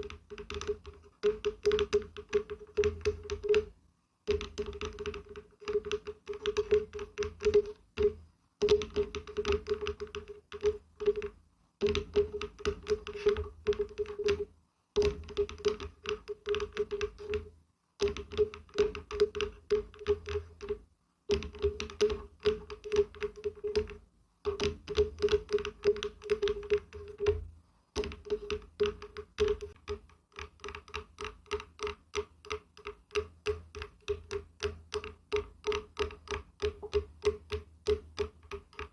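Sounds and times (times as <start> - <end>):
fingers tapping on wood: 0.0 - 38.9.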